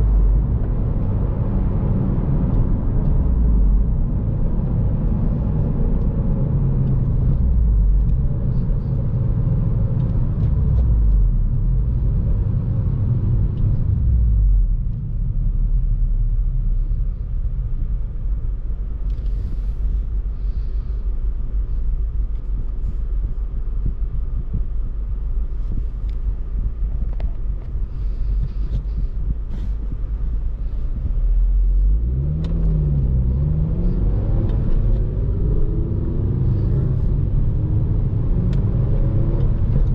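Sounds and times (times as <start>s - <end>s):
car engine: 0.0s - 39.9s
road noise: 0.0s - 39.9s.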